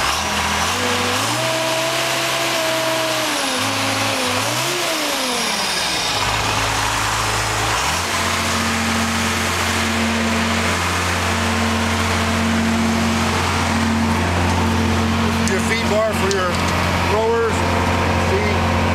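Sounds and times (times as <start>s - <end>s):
brush chipper engine running: 0.0s - 18.9s.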